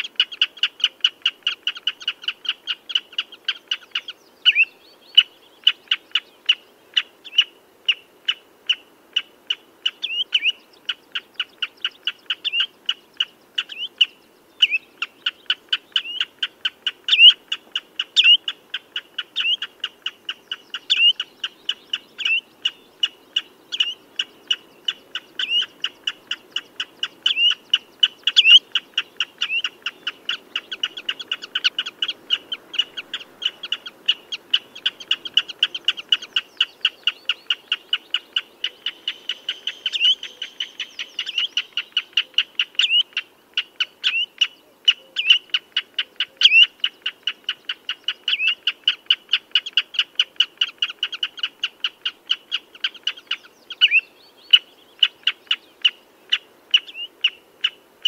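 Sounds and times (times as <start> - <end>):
bird piping calls: 0.0 - 57.8.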